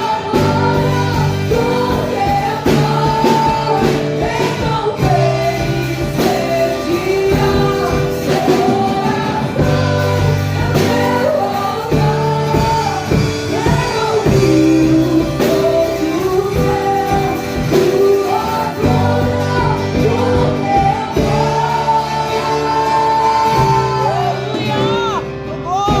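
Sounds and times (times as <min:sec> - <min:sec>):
person singing: 0:00.0 - 0:26.0
sustained instrumental backing: 0:00.0 - 0:26.0.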